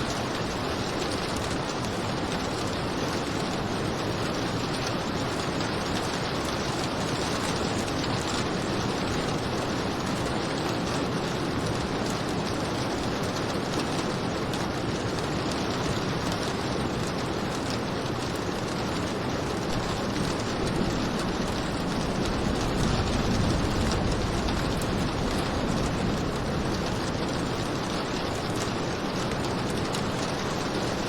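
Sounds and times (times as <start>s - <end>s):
steady rainfall: 0.0s - 31.0s.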